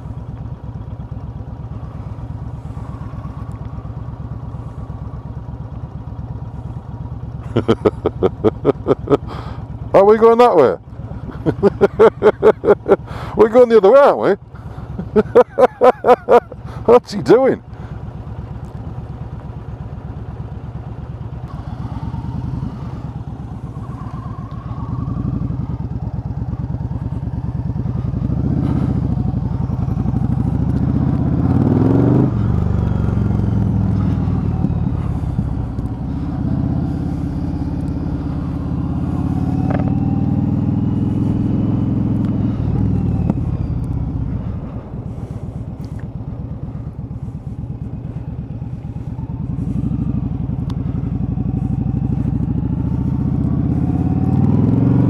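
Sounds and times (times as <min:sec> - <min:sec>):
motorcycle engine accelerating: 0:00.0 - 0:13.5, 0:14.2 - 0:55.0.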